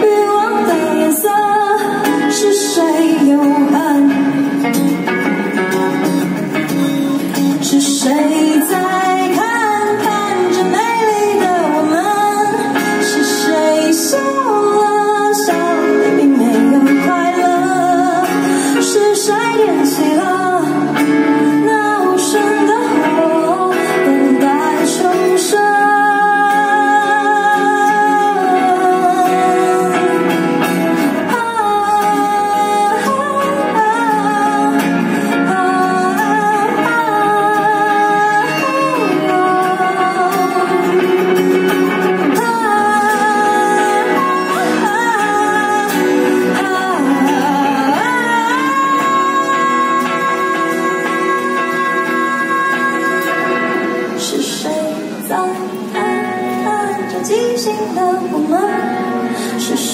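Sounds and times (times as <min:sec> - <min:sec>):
electric guitar: 0:00.0 - 0:59.9
strummed acoustic guitar: 0:00.0 - 0:59.9
woman singing: 0:00.0 - 0:59.9.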